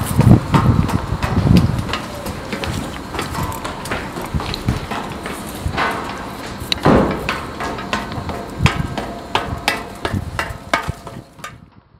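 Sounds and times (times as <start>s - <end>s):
footsteps on a staircase: 0.0s - 11.7s.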